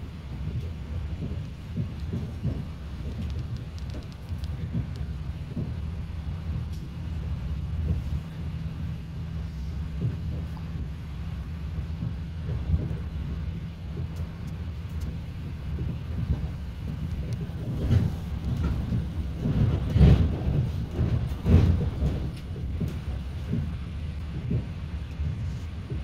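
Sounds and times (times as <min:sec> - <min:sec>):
train wheels knocking: 0:00.0 - 0:06.8, 0:09.9 - 0:26.0
train passing rumble: 0:00.0 - 0:26.0.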